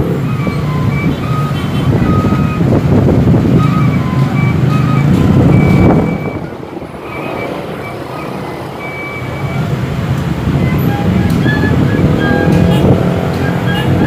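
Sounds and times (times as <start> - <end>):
cars in slow traffic: 0.0 - 14.0
motorcycles in slow traffic: 0.0 - 14.0.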